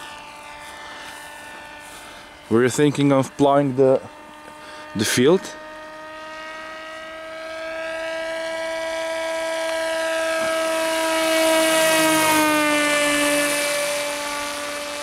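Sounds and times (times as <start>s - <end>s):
model aircraft motor whining: 0.0s - 15.0s.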